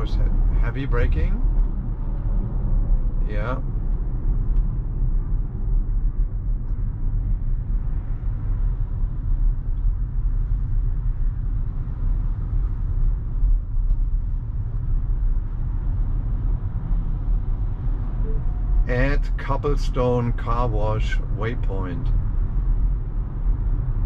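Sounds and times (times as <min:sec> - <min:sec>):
road and tyre rumble: 0:00.0 - 0:24.0.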